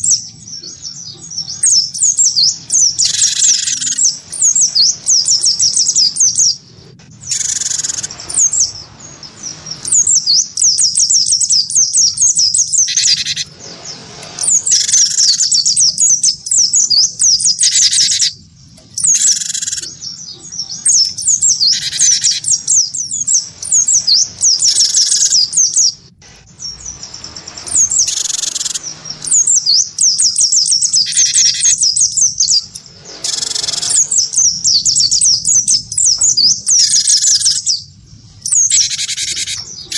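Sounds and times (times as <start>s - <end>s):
bird song phrases: 0.0s - 39.9s
birds twittering: 0.0s - 39.9s.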